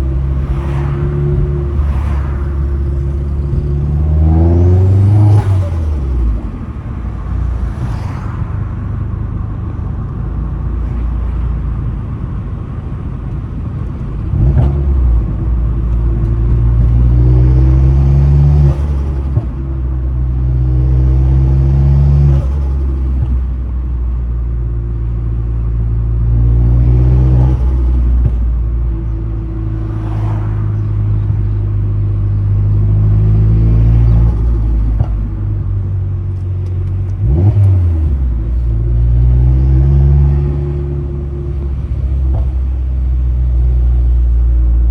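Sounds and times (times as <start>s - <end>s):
car engine accelerating hard: 0.0s - 44.9s.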